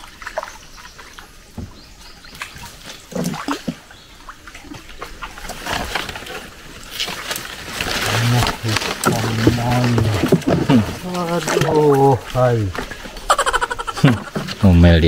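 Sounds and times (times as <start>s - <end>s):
water splashing around canoe: 0.0s - 14.8s.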